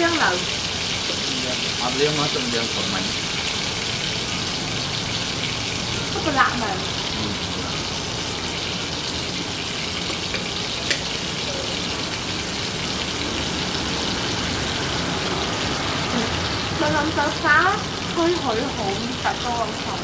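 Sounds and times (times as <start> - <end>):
steak sizzling in pan: 0.0 - 20.0.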